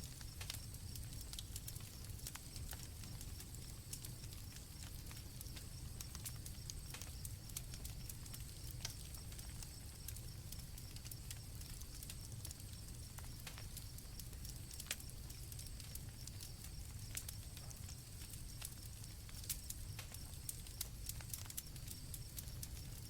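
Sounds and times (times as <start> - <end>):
campfire crackling and popping: 0.0 - 23.0
crickets trilling: 0.0 - 23.0.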